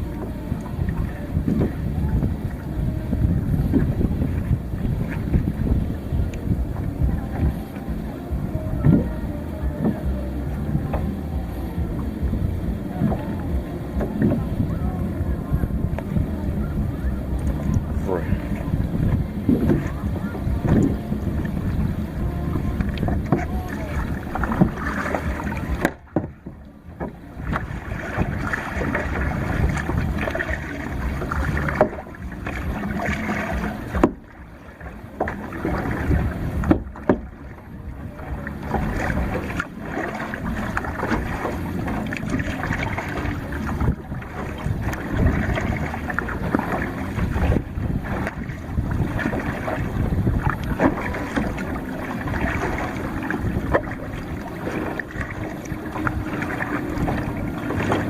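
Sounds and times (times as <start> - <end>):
water sloshing around kayak: 0.0 - 58.0
wind on microphone: 0.0 - 58.0.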